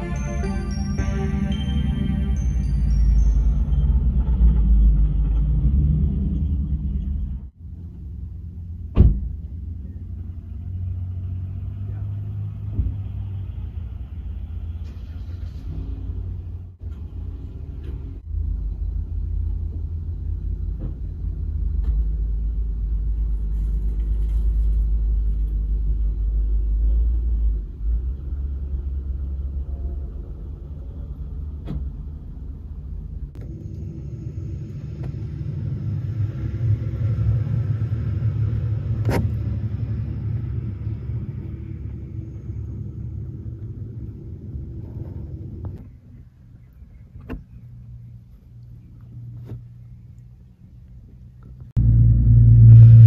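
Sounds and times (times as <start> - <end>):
high engine hum: 0.0 - 53.0
vehicle engine and road rumble: 0.0 - 53.0.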